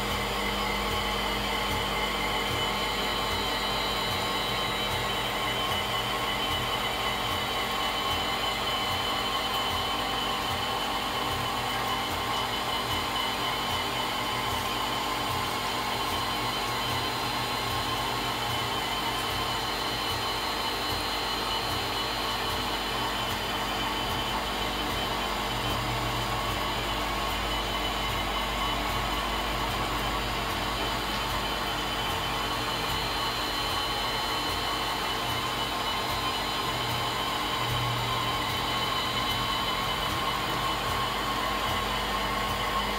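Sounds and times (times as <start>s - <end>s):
constant whining tones: 0.0s - 42.9s
milling machine spindle whir: 0.0s - 42.9s.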